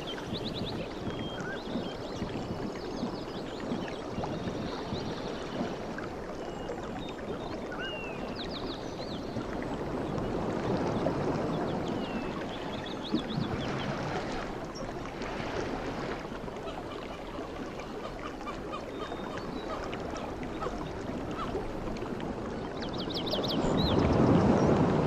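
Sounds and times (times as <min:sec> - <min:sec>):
sea waves washing: 0:00.0 - 0:07.8, 0:08.8 - 0:25.0.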